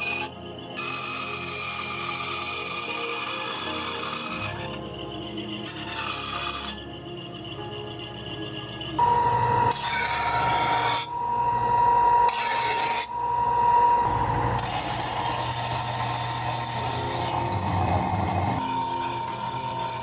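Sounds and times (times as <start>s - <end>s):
workshop tool whining: 0.0s - 20.0s.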